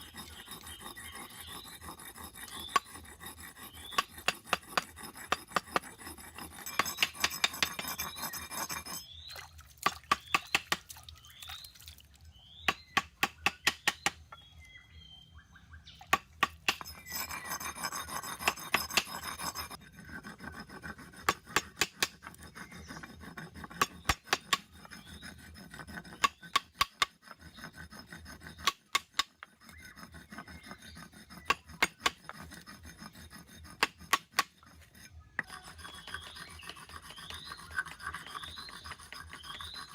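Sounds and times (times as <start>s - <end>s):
filing copper rasping: 0.0s - 9.3s, 10.1s - 10.8s, 12.7s - 14.3s, 16.2s - 39.9s.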